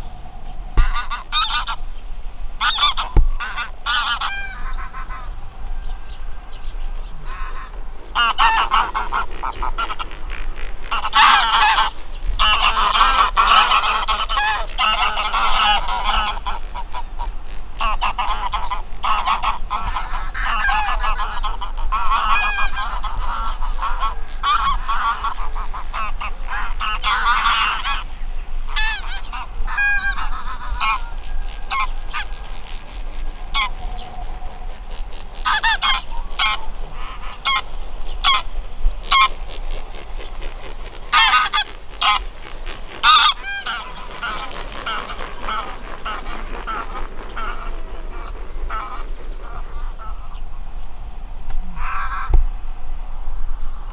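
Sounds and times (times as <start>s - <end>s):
geese honking in flight: 0.8s - 1.9s, 2.6s - 28.1s, 28.7s - 50.6s, 51.7s - 52.4s.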